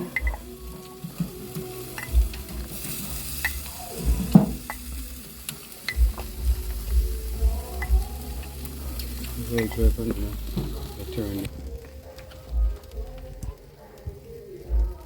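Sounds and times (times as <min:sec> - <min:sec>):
chicken sizzling over fire: 0:00.0 - 0:15.0
dull low thumps: 0:02.1 - 0:05.4, 0:06.0 - 0:15.0.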